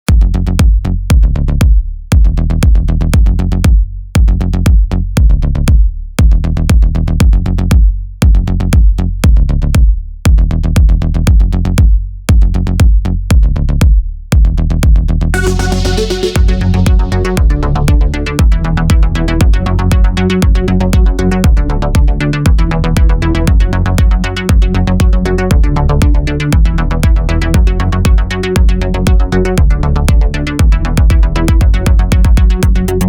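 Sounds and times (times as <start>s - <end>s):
electronic music with heavy bass: 0.1s - 33.0s.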